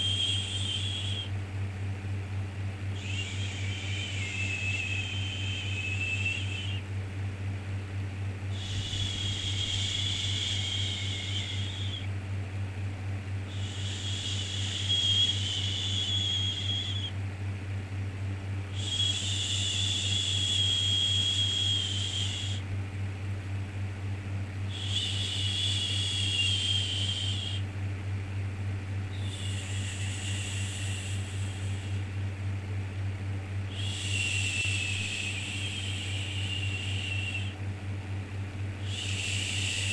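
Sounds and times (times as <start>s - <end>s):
low white noise hum: 0.0s - 39.9s.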